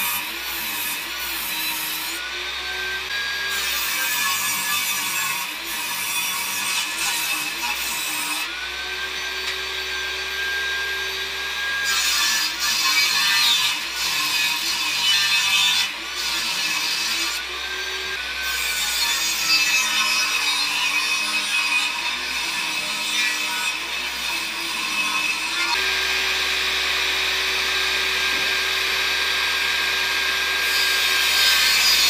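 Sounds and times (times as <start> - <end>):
table saw cutting wood: 0.0 - 32.0.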